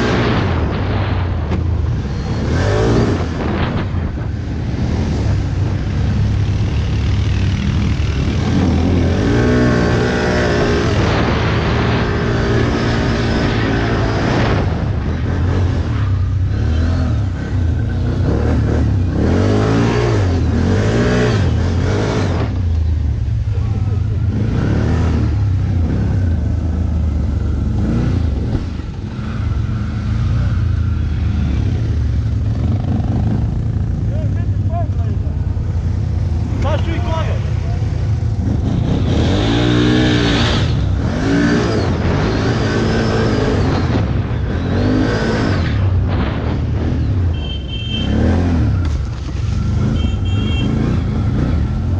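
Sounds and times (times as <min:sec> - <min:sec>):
quad bike engine revving: 0:02.0 - 0:22.7, 0:23.6 - 0:36.8, 0:37.6 - 0:51.9.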